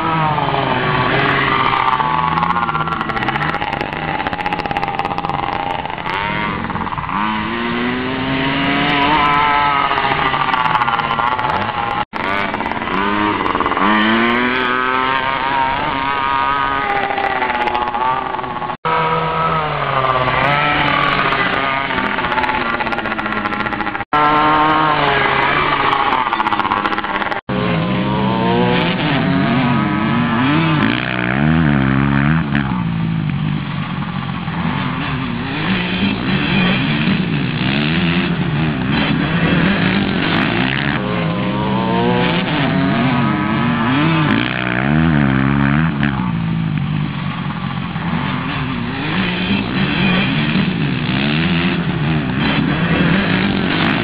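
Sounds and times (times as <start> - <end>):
deeper motocross engine revving: 0.0 - 54.0
small two-stroke dirt bike revving: 0.0 - 54.0.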